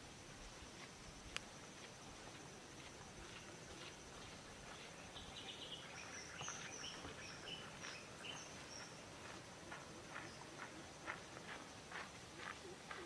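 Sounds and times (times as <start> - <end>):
faint birds chirping: 0.0 - 13.0
low background hiss: 0.0 - 13.0.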